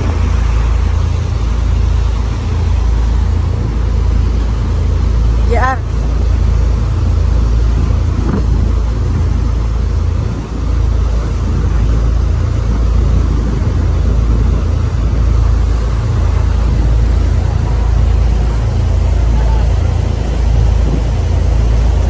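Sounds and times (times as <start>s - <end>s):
boat engine drone: 0.0s - 22.0s
wind on microphone: 0.0s - 22.0s.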